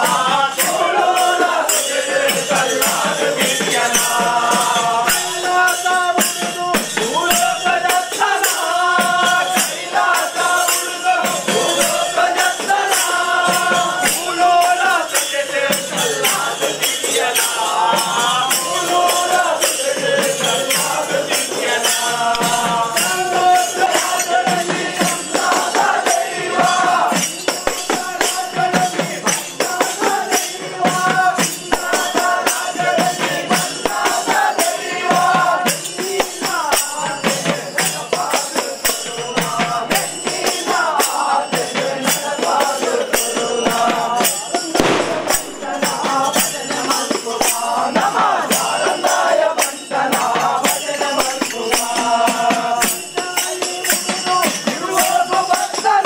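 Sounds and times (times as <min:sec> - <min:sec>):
fast drumming: 0:00.0 - 0:56.0
jingling cymbals: 0:00.0 - 0:56.0.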